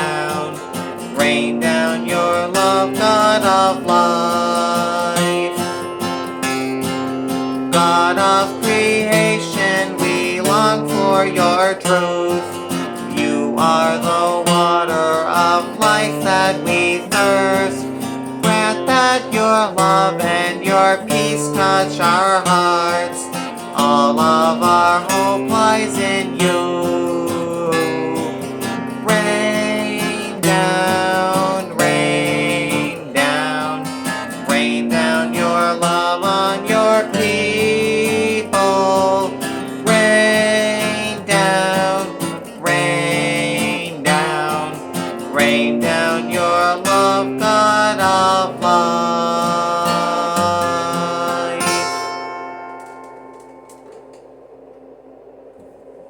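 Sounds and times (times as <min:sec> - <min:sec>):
acoustic guitar strumming: 0:00.0 - 0:54.2.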